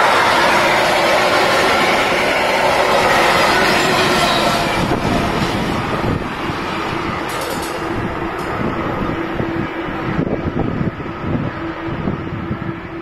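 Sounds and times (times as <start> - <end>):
freight train wheels on track: 0.0 - 13.0.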